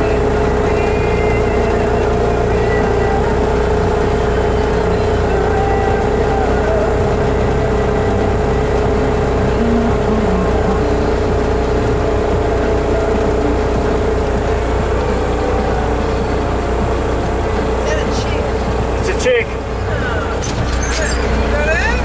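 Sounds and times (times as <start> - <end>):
constant whine: 0.0 - 22.0
diesel truck engine idling: 0.0 - 22.0.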